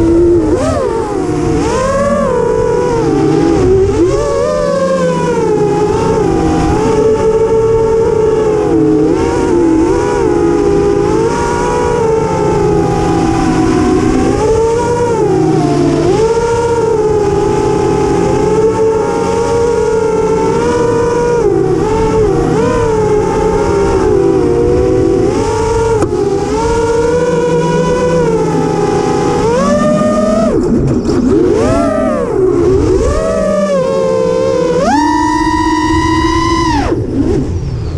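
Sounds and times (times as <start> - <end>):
quadcopter motors whining: 0.0 - 37.9.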